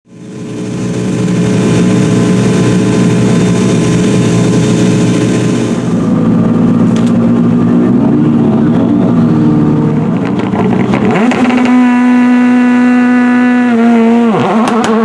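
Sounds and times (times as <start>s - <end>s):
rally car engine revving: 0.1s - 15.0s.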